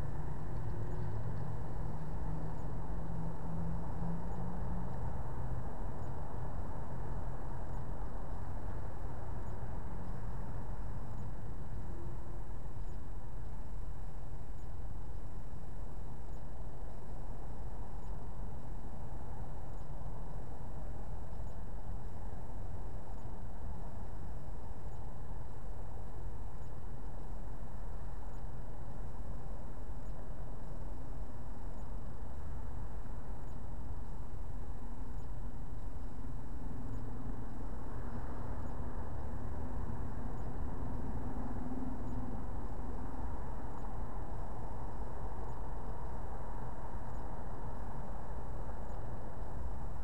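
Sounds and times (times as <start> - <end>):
faint high-pitched whine: 0.0 - 50.0.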